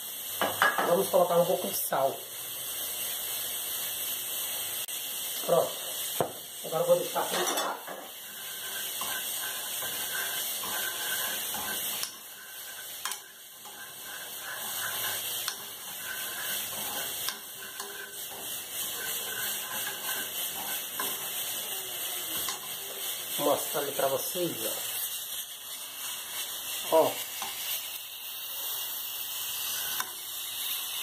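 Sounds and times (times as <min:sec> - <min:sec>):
garlic sizzling in hot oil: 0:00.0 - 0:31.0.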